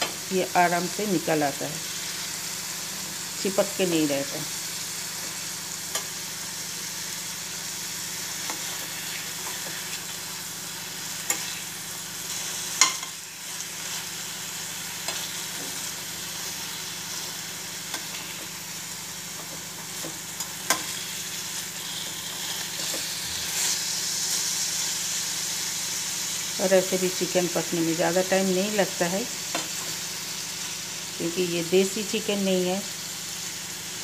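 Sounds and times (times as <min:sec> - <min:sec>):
meat sizzling in a frying pan: 0:00.0 - 0:34.0.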